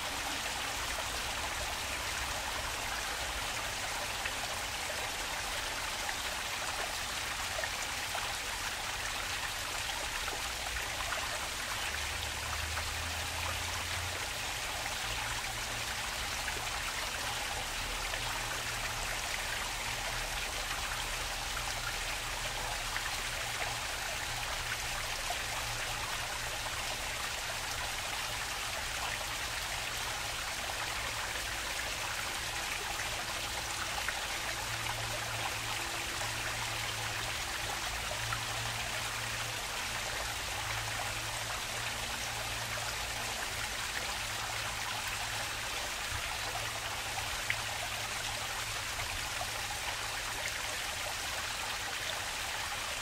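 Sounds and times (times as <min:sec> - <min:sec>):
stream water flowing and splashing: 0:00.0 - 0:53.0.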